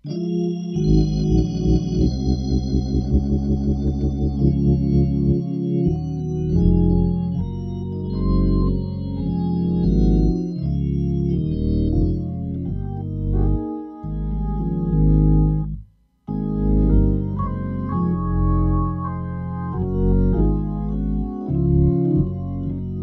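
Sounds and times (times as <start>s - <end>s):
organ playing gospel chords: 0.0s - 23.0s.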